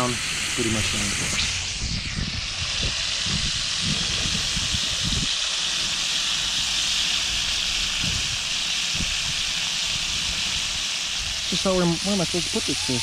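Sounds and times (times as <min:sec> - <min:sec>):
fish sizzling in hot oil: 0:02.0 - 0:13.0.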